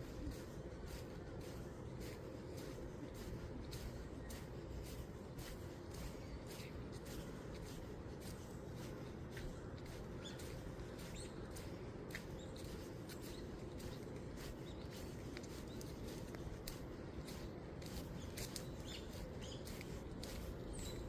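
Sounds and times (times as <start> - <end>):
low background noise: 0.0 - 21.0
small songbirds chirping: 0.0 - 21.0.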